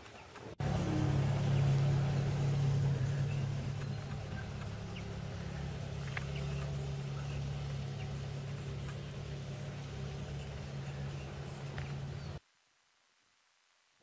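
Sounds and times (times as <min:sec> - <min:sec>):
car engine low hum: 0:00.6 - 0:12.4.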